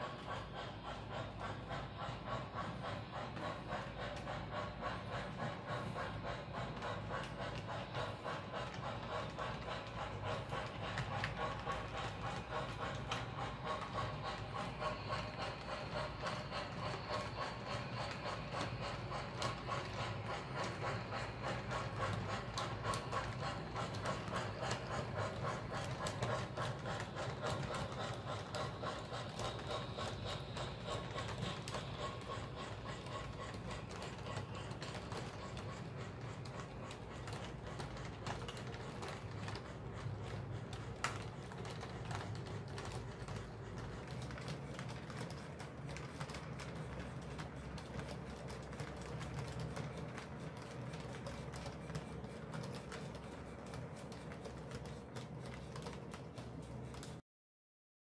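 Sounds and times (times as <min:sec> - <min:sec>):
model train wheels clicking: 0:00.0 - 0:57.2
steady mechanical hum: 0:00.0 - 0:57.2.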